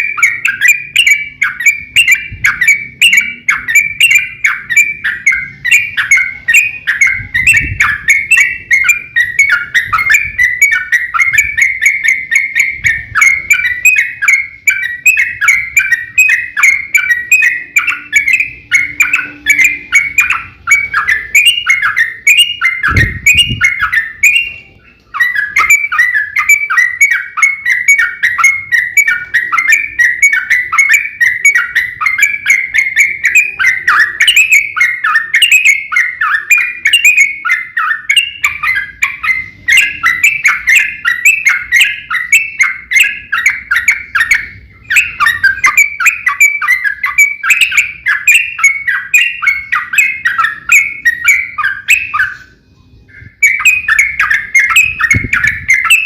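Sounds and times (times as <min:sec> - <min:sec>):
bulbul singing rapid chatter: 0:00.0 - 0:56.0.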